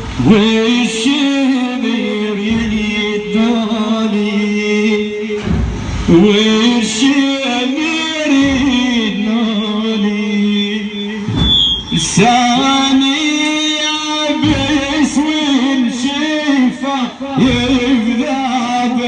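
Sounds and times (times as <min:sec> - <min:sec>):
man chanting a lament: 0:00.0 - 0:19.0.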